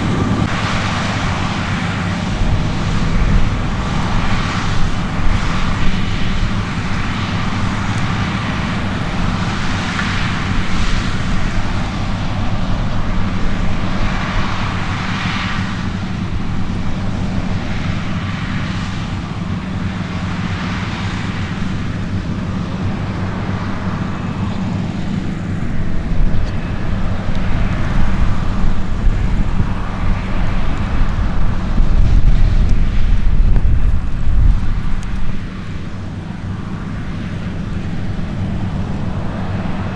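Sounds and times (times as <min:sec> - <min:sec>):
diesel farm machinery engine: 0:00.0 - 0:39.9
machinery rushing noise: 0:00.0 - 0:39.9.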